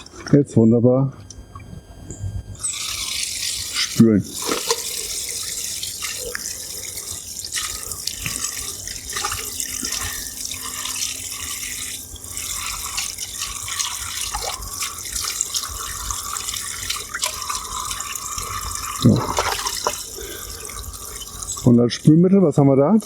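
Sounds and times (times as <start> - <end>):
water splashing into basin: 2.6 - 21.8.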